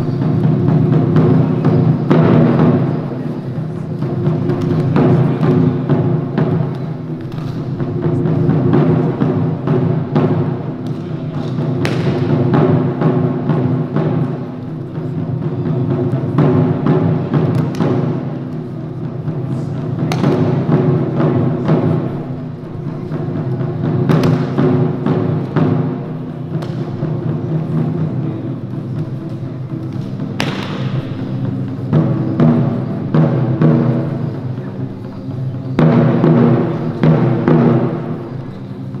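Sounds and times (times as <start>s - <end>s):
drums in driving rhythm: 0.0s - 39.0s
sharp cracking drum strikes: 0.0s - 39.0s.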